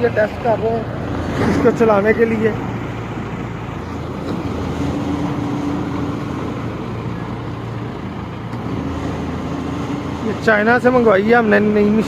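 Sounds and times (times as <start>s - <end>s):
combine harvester engine running: 0.0s - 12.0s.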